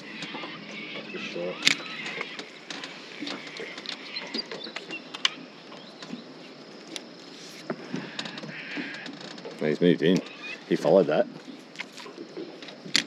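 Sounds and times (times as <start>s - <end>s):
faint bird chirps: 0.0s - 9.0s, 9.6s - 12.2s
outdoor background hiss: 0.0s - 13.0s.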